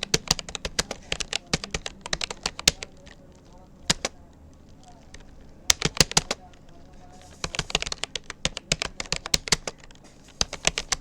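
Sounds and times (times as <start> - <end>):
keyboard typing clicks: 0.0 - 11.0.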